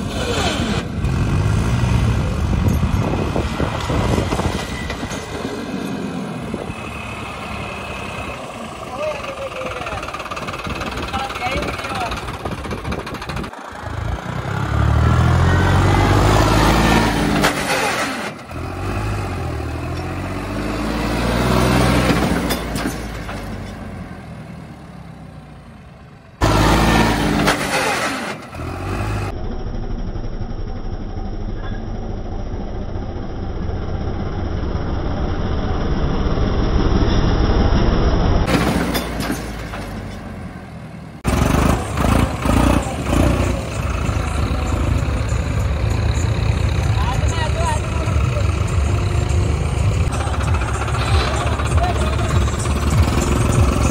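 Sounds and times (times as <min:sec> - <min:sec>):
tractor engine revving: 0:00.0 - 0:53.9.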